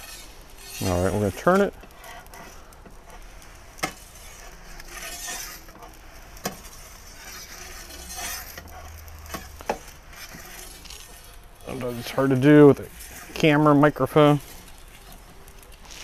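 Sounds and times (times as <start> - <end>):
metal peel scraping stone: 0.0 - 16.0.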